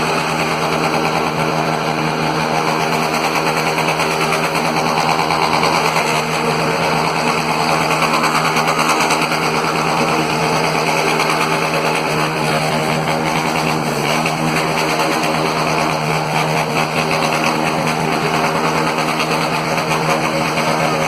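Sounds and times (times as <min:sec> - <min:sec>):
small engine buzzing: 0:00.0 - 0:21.0.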